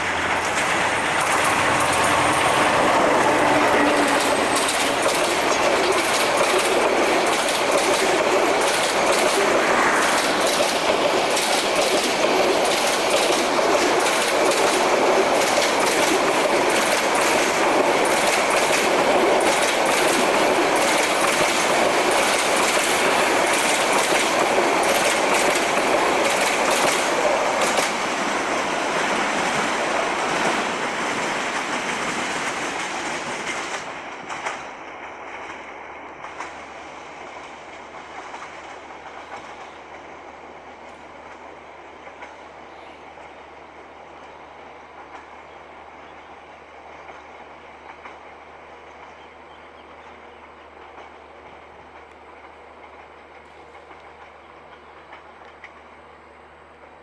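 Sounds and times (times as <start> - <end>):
train wheels clacking over rail joints: 0.0 - 40.2, 40.8 - 42.5, 44.2 - 46.3, 46.9 - 49.3, 50.4 - 56.0.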